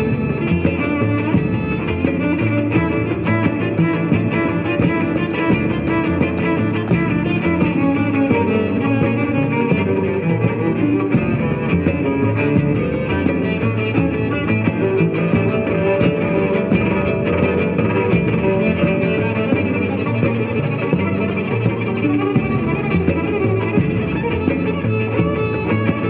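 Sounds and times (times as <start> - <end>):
bowed cello: 0.0 - 26.0
looped cello layers: 0.0 - 26.0.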